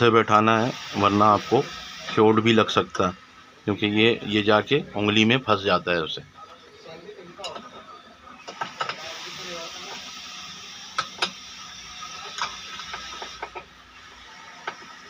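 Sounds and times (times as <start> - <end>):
steady hiss: 0.0 - 6.4, 8.4 - 15.0.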